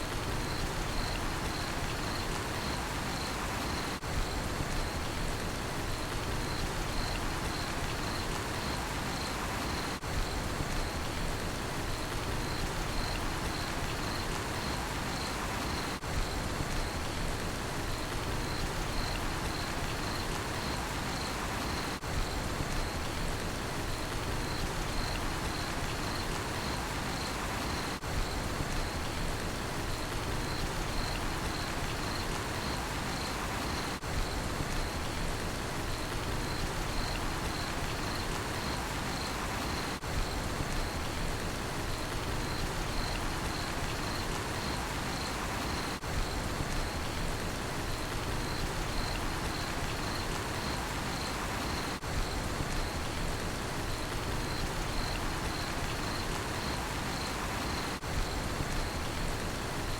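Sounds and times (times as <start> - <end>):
steady rain falling: 0.0 - 59.9
cricket chirping: 0.2 - 5.2, 5.9 - 11.2, 12.3 - 17.1, 17.8 - 23.2, 23.9 - 29.2, 29.9 - 35.2, 35.8 - 59.9.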